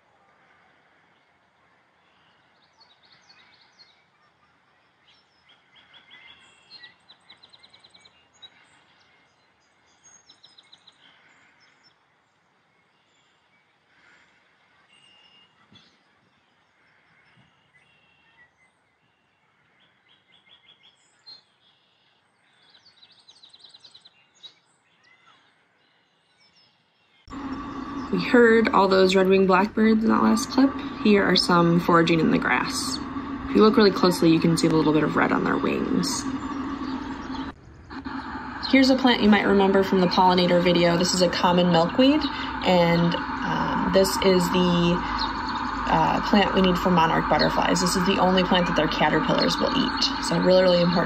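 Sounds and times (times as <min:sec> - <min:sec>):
faint birdsong trills: 0:00.0 - 0:51.0.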